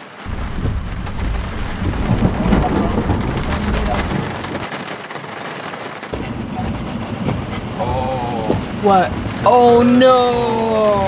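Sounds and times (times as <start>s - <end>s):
thunder rumbling: 0.0s - 5.0s, 6.1s - 11.0s
rain on vehicle windows: 0.0s - 11.0s.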